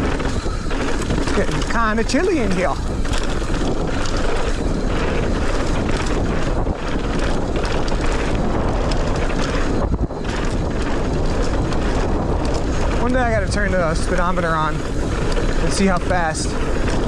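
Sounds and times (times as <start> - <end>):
bike tyres rolling over dirt: 0.0 - 17.0
wind rushing over microphone: 0.0 - 17.0.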